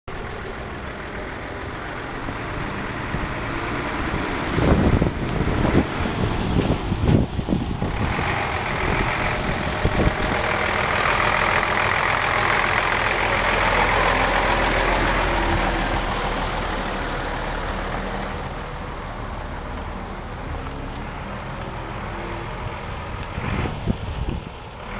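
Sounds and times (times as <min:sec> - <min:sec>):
truck diesel engine idling: 0:00.1 - 0:24.9.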